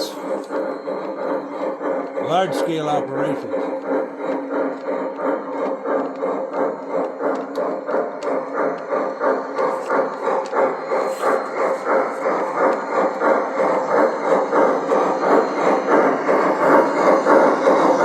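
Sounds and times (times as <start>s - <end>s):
steam chuff through small speaker: 0.0s - 18.0s.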